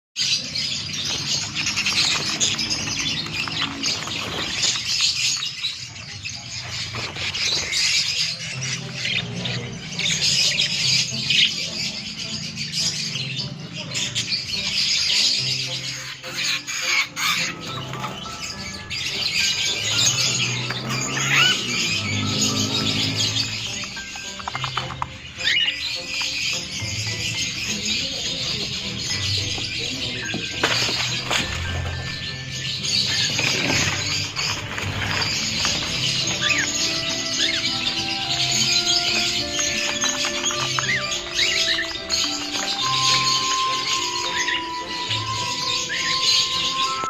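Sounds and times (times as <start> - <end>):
caged songbirds chirping: 0.2 - 47.0.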